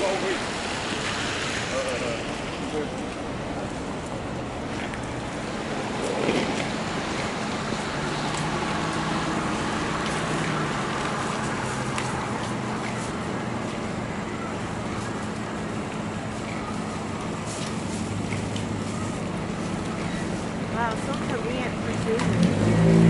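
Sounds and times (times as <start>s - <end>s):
street traffic noise: 0.0s - 23.0s
vehicle engine humming: 0.0s - 23.0s.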